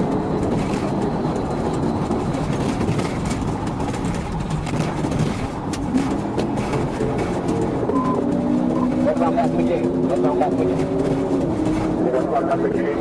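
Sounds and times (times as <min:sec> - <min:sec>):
vehicle driving at speed: 0:00.0 - 0:13.0.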